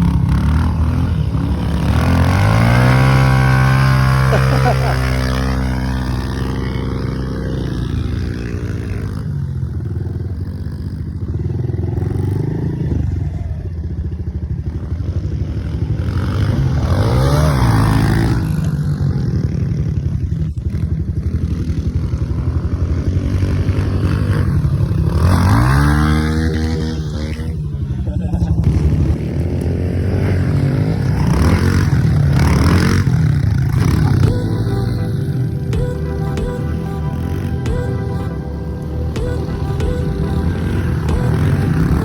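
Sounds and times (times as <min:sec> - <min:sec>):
motorbike engine revving: 0:00.0 - 0:42.0.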